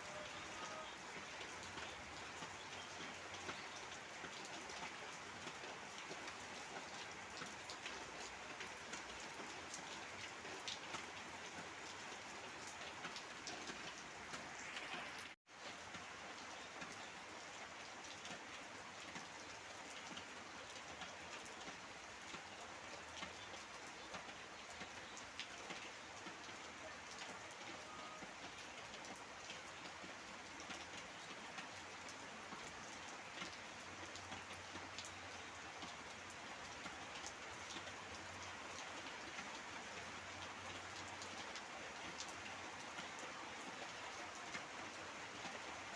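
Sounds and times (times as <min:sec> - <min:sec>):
heavy rain pattering: 0:00.0 - 0:45.9.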